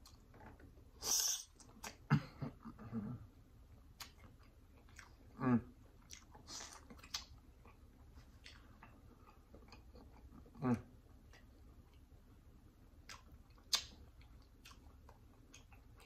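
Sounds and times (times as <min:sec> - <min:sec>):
wet chewing and lip smacks: 0:00.0 - 0:02.1, 0:03.8 - 0:16.0.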